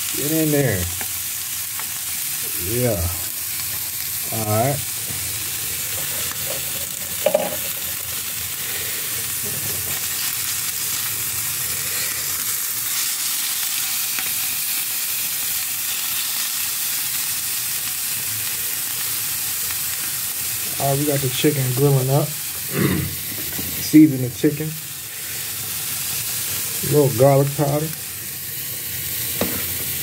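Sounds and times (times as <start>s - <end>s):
chicken sizzling on griddle: 0.0s - 30.0s.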